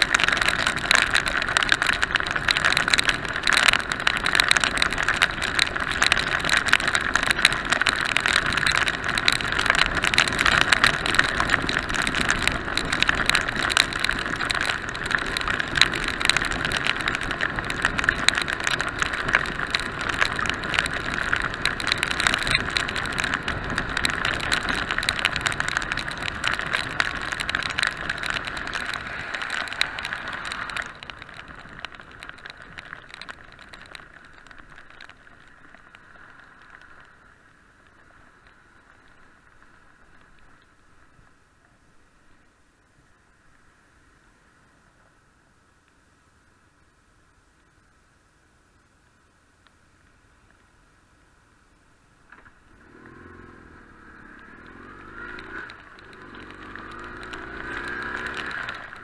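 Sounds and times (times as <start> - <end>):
raindrops striking camera: 0.0 - 41.4, 52.3 - 59.0.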